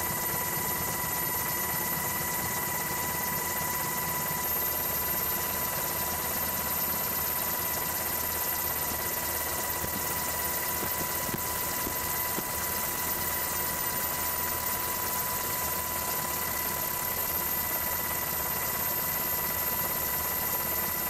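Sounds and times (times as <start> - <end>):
helicopter rotor and engine drone: 0.0 - 21.0.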